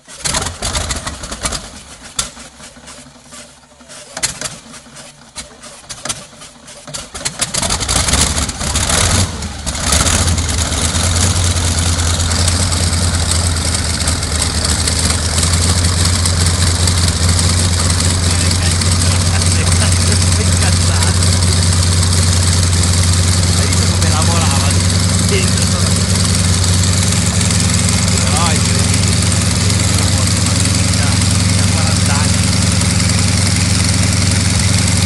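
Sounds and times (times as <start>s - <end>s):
radial engine starting: 0.0s - 35.0s.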